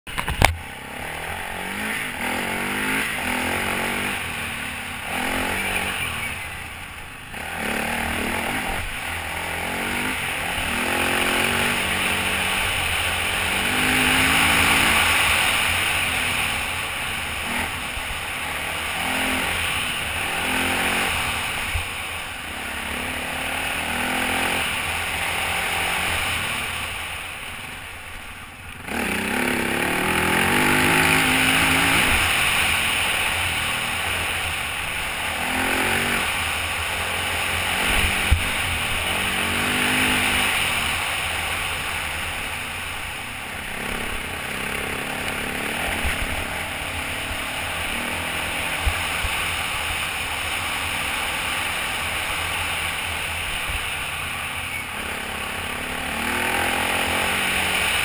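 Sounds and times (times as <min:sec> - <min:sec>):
off-road motorcycle engine revving: 0:00.0 - 0:58.0
steady rushing hiss: 0:00.6 - 0:58.0.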